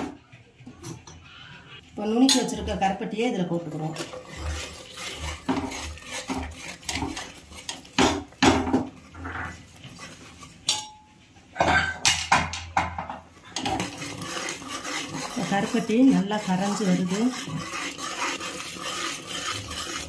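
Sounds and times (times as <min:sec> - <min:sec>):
steel ladle scraping a pot: 0:00.0 - 0:12.2, 0:13.4 - 0:20.0.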